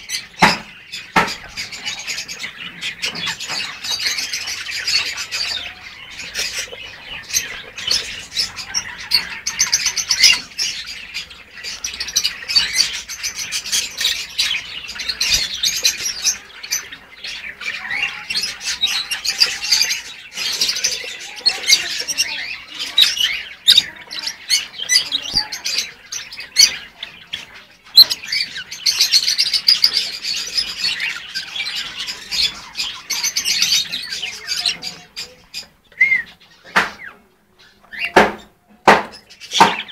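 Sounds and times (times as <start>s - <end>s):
lovebirds chirping and chattering: 0.0s - 39.9s.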